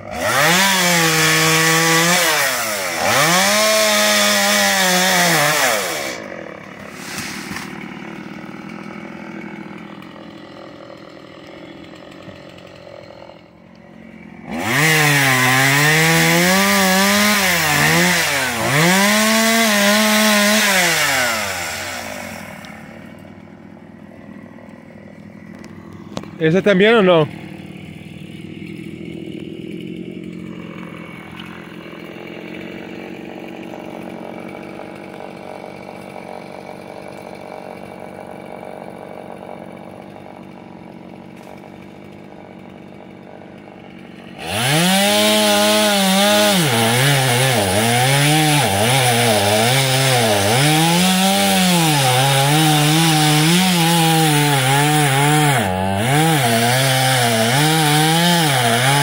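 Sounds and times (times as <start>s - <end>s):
chainsaw cutting tree trunk: 0.0s - 59.0s.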